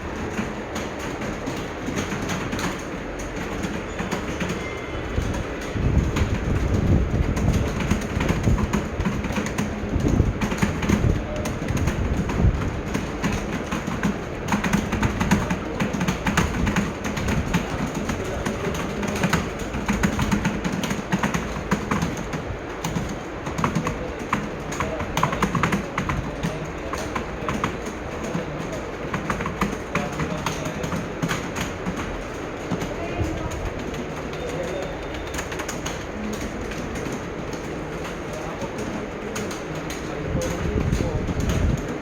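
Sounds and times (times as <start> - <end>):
fast keyboard typing: 0.0 - 42.0.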